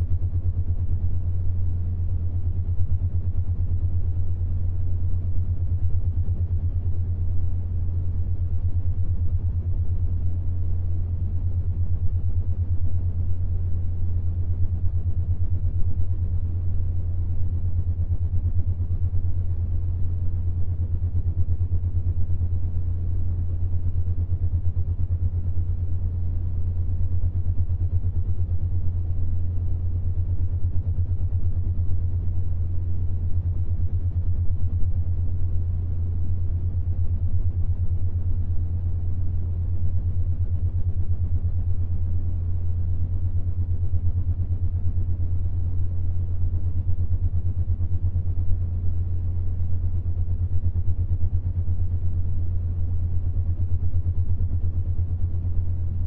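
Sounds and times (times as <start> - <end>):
fluttering low hum: 0.0 - 56.0.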